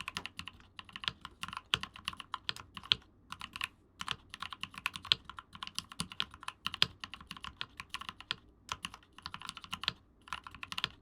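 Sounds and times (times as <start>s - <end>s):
fast typing on dampened keyboard: 0.0s - 11.0s.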